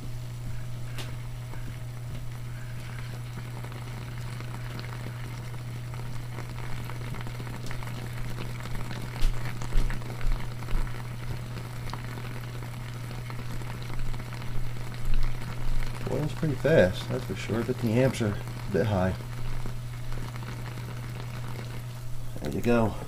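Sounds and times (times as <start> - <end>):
heater humming: 0.0 - 23.0
water bubbling and crackling: 0.6 - 23.0.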